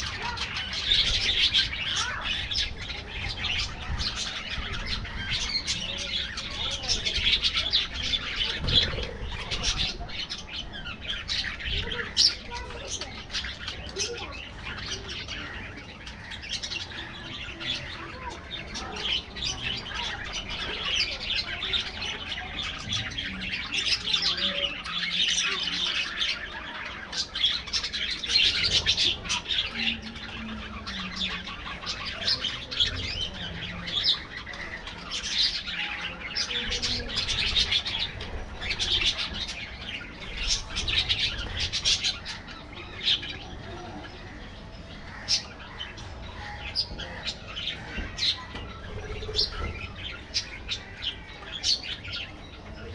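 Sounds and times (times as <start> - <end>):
budgerigars chattering: 0.0 - 52.9.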